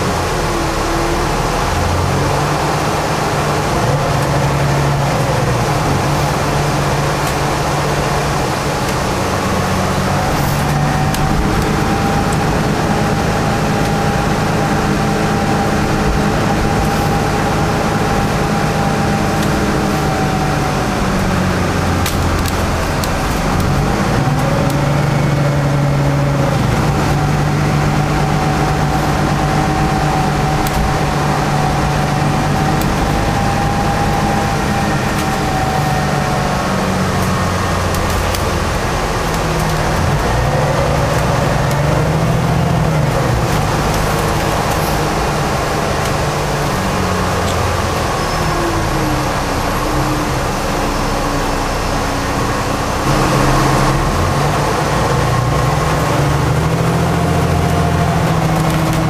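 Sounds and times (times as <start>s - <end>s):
bus diesel engine running: 0.0s - 59.0s
road noise: 0.0s - 59.0s
steady whine: 0.0s - 59.0s.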